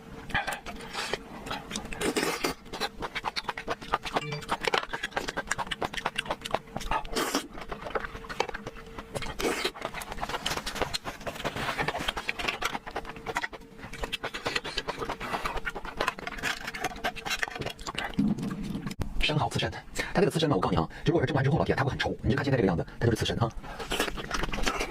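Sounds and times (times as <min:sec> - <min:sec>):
noisy eating bursts: 0:00.0 - 0:19.0, 0:23.2 - 0:24.9
wet chewing and mouth noises: 0:00.0 - 0:19.0, 0:23.3 - 0:24.9.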